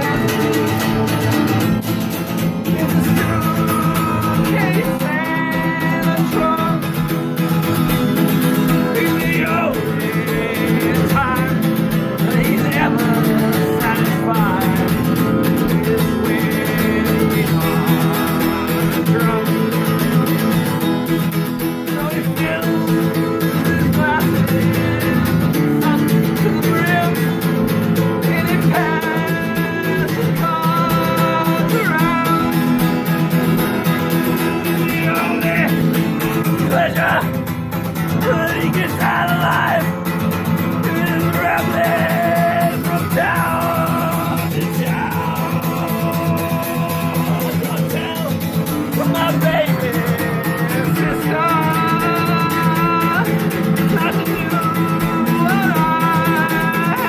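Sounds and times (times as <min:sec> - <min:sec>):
acoustic guitar music: 0:00.0 - 0:57.0
person singing: 0:00.0 - 0:57.0.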